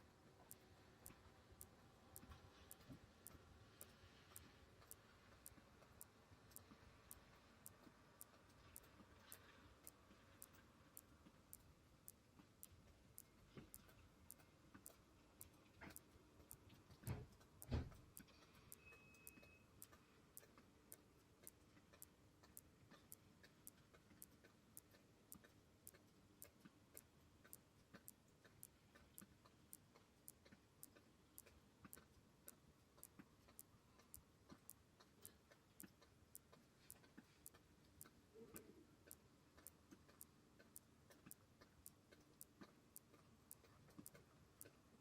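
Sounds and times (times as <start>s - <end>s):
faint even ticking: 0.0s - 44.9s.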